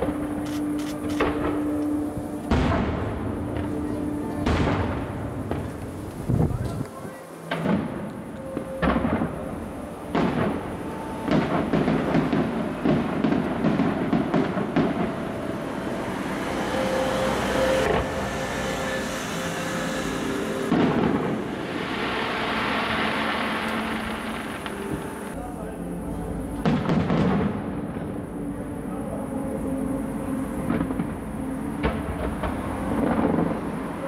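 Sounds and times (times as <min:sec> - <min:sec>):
fireworks booming bangs: 0:00.0 - 0:25.4, 0:26.6 - 0:28.5, 0:30.5 - 0:34.0
fireworks crackle: 0:00.0 - 0:25.5, 0:26.5 - 0:28.5, 0:30.1 - 0:34.0
rolling rumble: 0:00.0 - 0:34.0.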